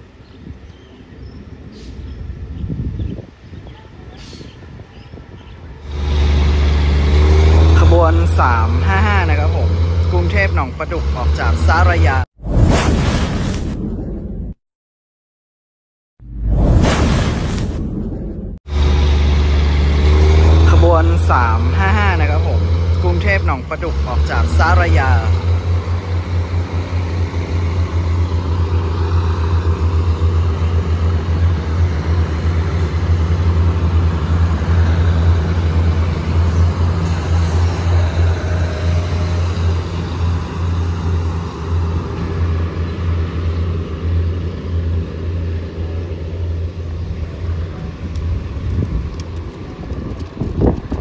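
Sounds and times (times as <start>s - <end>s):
diesel train engine drone: 0.0s - 12.4s, 17.4s - 51.0s.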